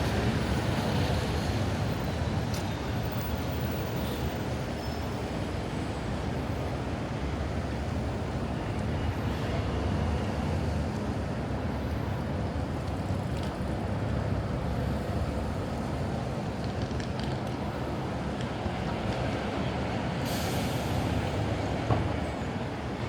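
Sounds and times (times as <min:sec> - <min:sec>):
passing traffic: 0:00.0 - 0:23.0.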